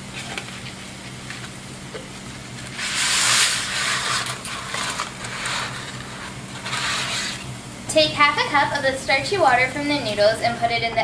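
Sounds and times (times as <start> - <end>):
steady low hum: 0.0 - 11.0
water boiling: 0.0 - 11.0
pasta hissing in boiling water: 1.6 - 10.8.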